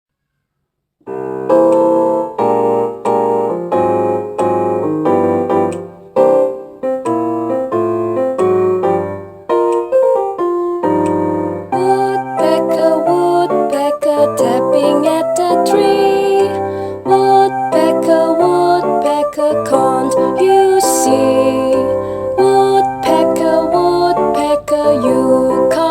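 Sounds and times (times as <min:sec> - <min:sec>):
electronic keyboard piano chords: 0:01.0 - 0:25.9.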